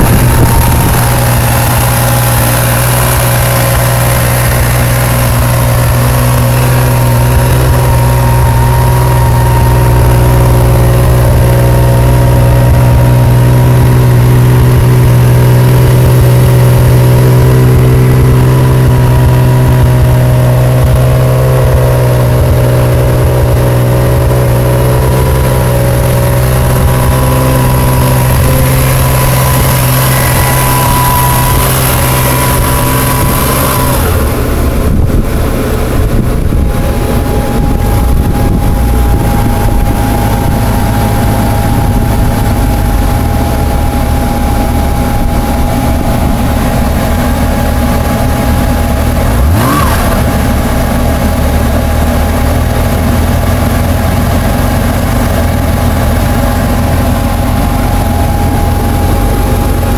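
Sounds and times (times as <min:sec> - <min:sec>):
motorcycle engine idling: 0:00.0 - 0:49.4, 0:50.1 - 0:59.9.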